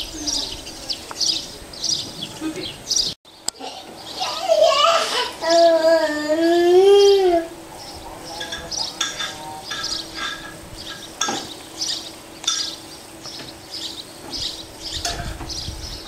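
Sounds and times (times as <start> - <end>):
bird chirping: 0.0 - 4.4, 6.4 - 16.0.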